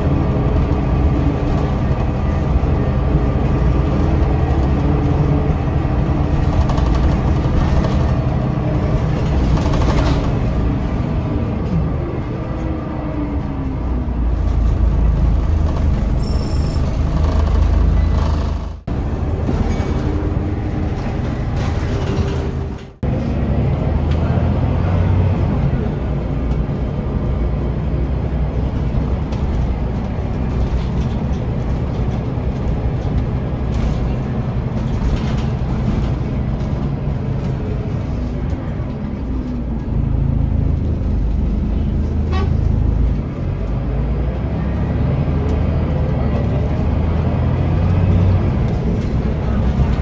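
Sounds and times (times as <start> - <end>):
bus diesel engine running: 0.0 - 50.0
road noise: 0.0 - 50.0.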